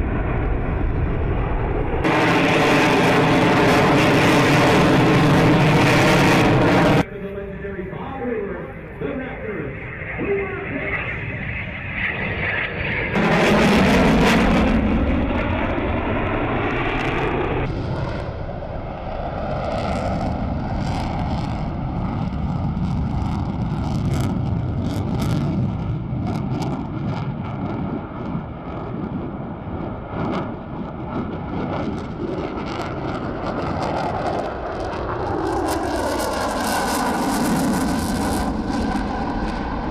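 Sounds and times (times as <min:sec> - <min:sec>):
jet engine roar with crackling: 0:00.0 - 0:39.9.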